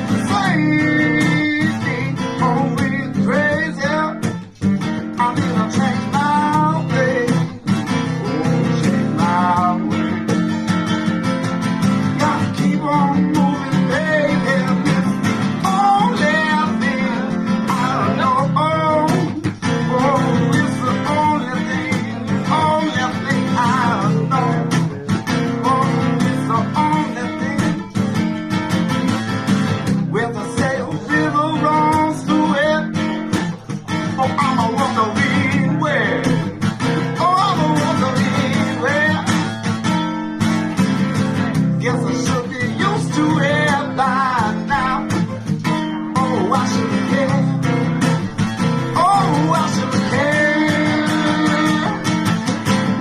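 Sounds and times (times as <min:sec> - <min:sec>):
strummed guitar chords: 0:00.0 - 0:53.0.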